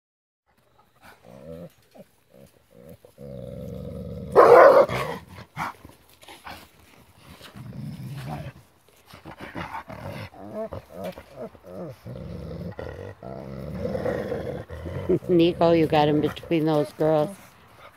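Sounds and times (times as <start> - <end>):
wolf snarling: 1.0 - 5.8, 7.3 - 17.2
wolves growling: 1.0 - 17.9.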